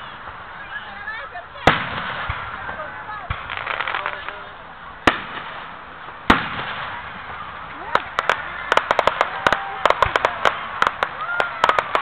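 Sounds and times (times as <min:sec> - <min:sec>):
fireworks bangs: 0:00.0 - 0:12.0
crackling pops: 0:01.6 - 0:12.0.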